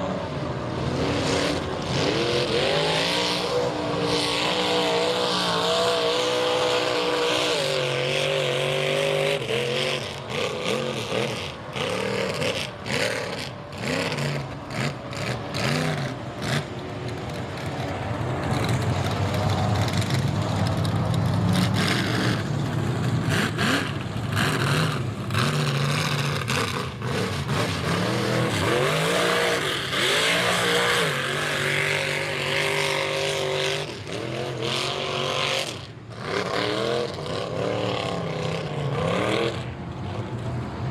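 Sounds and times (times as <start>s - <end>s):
truck engine revving: 0.0s - 40.4s.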